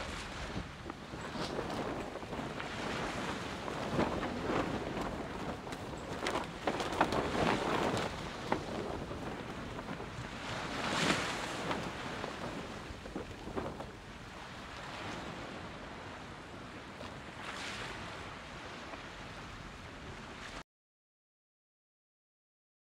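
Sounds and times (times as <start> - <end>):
wind and sea water rushing: 0.0 - 20.6.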